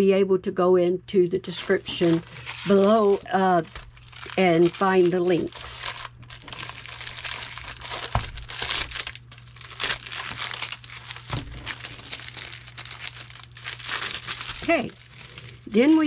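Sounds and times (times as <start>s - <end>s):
packaging crinkling: 1.5s - 16.0s.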